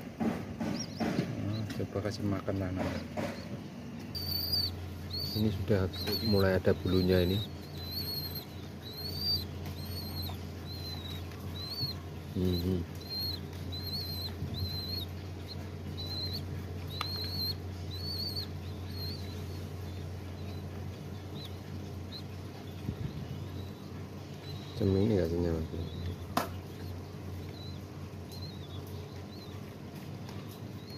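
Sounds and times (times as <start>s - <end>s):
pigeon squabs peeping: 0.0s - 30.9s.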